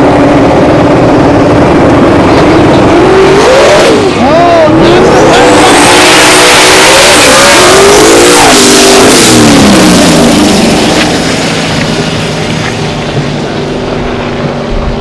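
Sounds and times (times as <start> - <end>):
drag racing cars at full throttle: 0.0 - 15.0.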